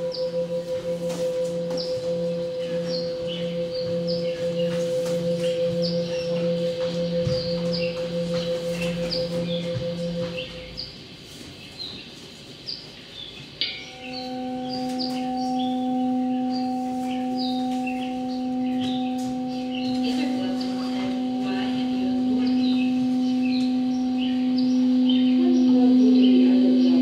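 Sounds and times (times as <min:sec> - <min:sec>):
low ringing tone: 0:00.0 - 0:11.0, 0:13.6 - 0:27.0
birds chirping: 0:00.0 - 0:27.0.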